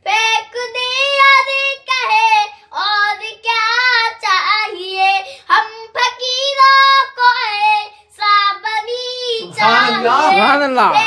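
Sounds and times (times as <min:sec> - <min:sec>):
boy singing devotional song: 0:00.0 - 0:11.0.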